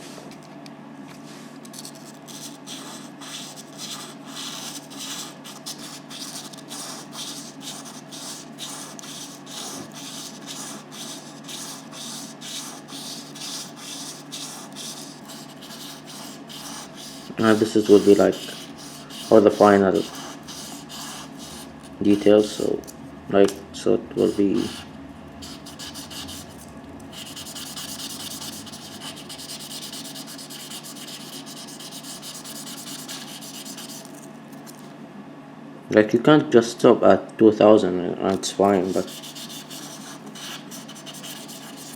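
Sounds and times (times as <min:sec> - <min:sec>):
stone scratching on sandpaper: 0:01.7 - 0:22.7, 0:24.2 - 0:34.3, 0:38.7 - 0:41.9.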